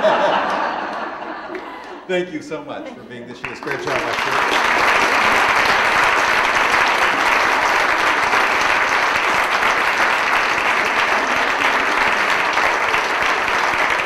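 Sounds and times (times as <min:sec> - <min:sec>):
audience applauding: 0:00.0 - 0:02.1, 0:03.2 - 0:14.0.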